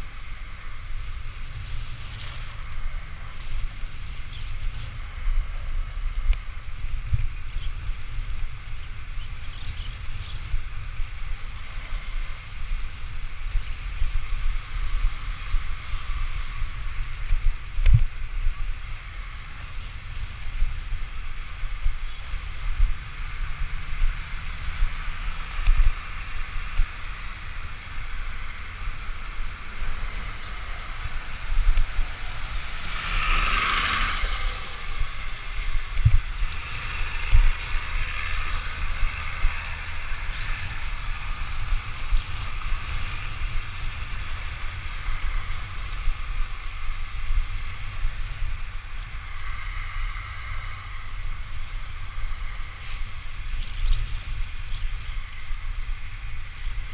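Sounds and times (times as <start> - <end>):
road hiss: 0.0 - 56.9
wind buffeting microphone: 0.0 - 56.9.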